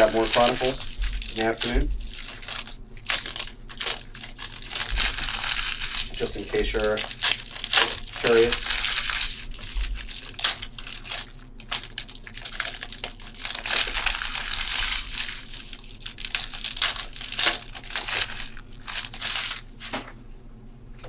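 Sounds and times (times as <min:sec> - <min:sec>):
plastic wrapping crinkling and tearing: 0:00.0 - 0:20.0.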